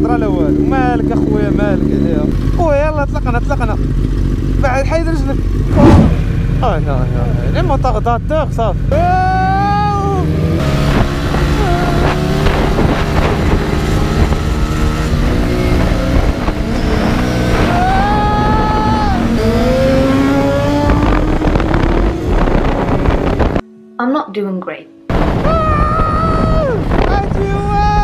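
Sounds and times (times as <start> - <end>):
high engine whine: 0.0 - 23.6
motorcycle engines accelerating: 0.0 - 23.6, 25.1 - 28.0.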